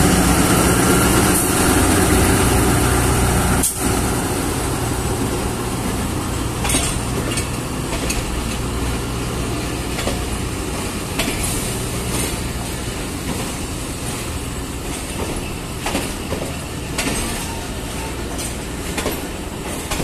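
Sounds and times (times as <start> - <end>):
train coaches rumbling past: 0.0 - 20.0
wheels clacking over rail joints: 0.0 - 20.0.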